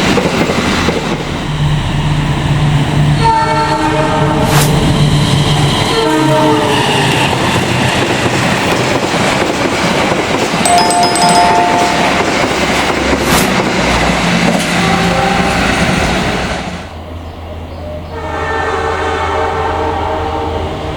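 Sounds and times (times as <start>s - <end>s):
train rumbling on rails: 0.0s - 20.9s.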